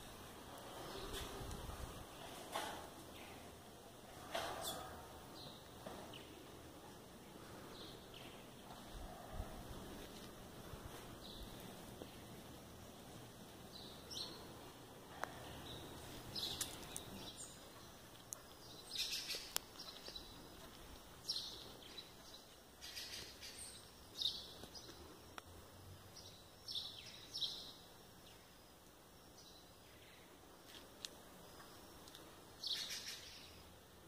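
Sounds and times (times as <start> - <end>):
birds chirping: 0.0 - 30.6, 31.2 - 33.7
faint outdoor background noise: 0.0 - 34.0.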